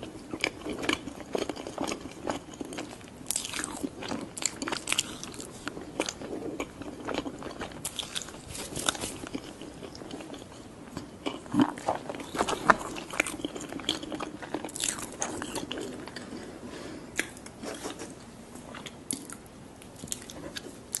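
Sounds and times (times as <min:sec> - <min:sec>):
chewing crisp food: 0:00.0 - 0:16.6, 0:17.2 - 0:21.0.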